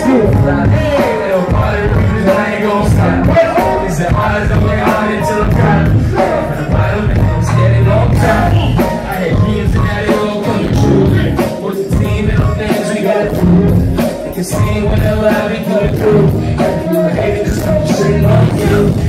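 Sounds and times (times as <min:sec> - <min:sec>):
live hip-hop band beat: 0:00.0 - 0:19.0
male vocals on microphones: 0:00.0 - 0:19.0.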